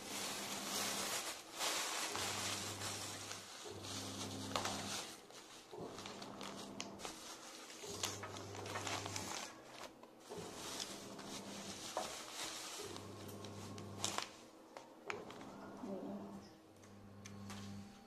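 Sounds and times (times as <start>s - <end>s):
foil crinkling: 0.0s - 15.9s
plastic bag rustling: 0.0s - 16.4s.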